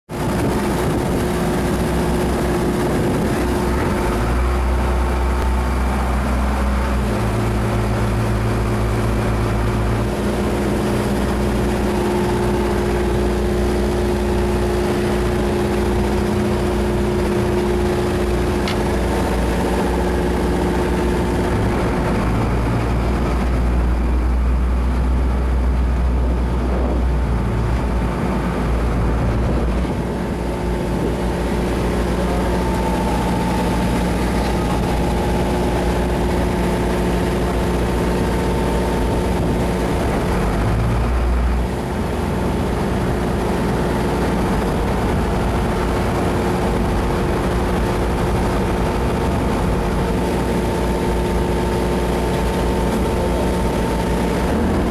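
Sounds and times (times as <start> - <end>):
ship engines droning: 0.1 - 54.9.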